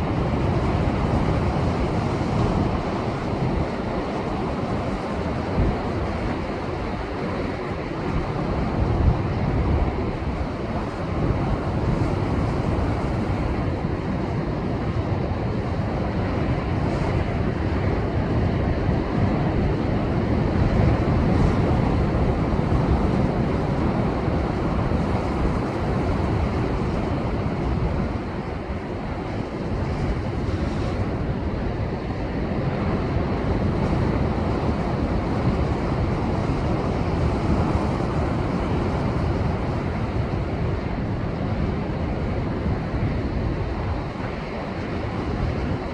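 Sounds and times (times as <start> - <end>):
wind on microphone: 0.0 - 45.9.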